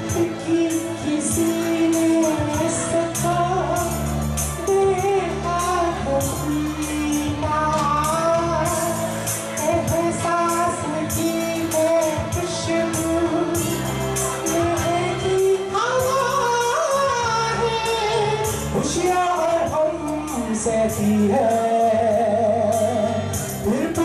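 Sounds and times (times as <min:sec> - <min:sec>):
backing track with bass and beat: 0:00.0 - 0:24.0
man singing into microphone: 0:00.0 - 0:24.0.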